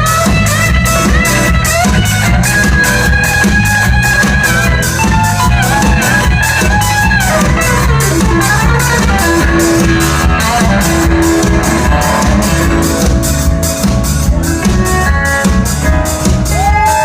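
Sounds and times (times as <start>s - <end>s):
bass guitar: 0.0s - 17.0s
drum kit with cymbal beat: 0.0s - 17.0s
electric guitar: 0.0s - 17.0s.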